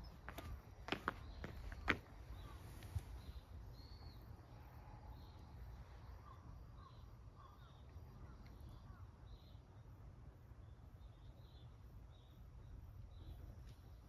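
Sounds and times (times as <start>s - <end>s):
distant birds chirping: 0.0s - 14.0s.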